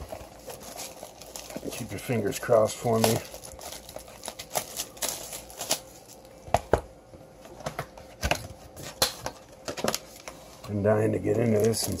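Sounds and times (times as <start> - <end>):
cardboard and foil wrapping crinkling: 0.0 - 6.4, 8.4 - 12.0.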